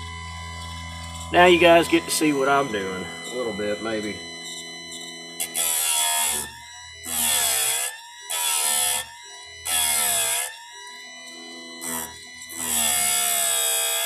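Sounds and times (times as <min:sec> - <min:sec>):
grinding wheel on chain teeth: 0:00.0 - 0:10.6, 0:11.2 - 0:14.0
grinding-wheel motor whining: 0:00.0 - 0:14.0.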